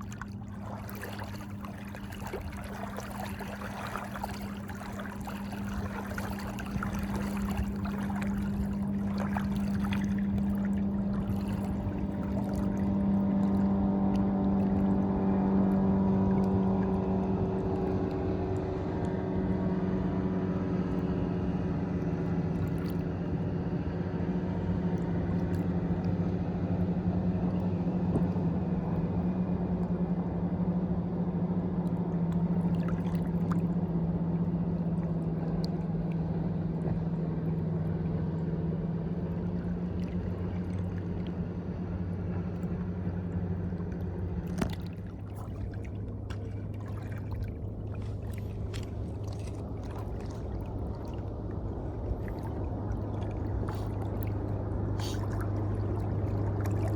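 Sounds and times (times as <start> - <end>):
engine drone: 0.0 - 56.9
water sounds: 0.0 - 56.9.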